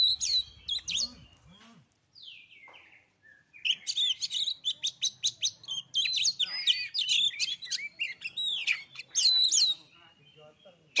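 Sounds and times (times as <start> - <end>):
songbird singing whistled notes: 0.0 - 11.0.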